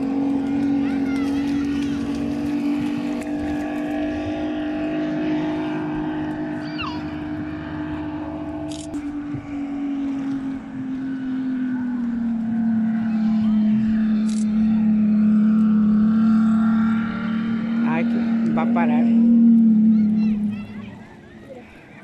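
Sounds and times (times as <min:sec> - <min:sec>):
speedboat engine droning: 0:00.0 - 0:22.0.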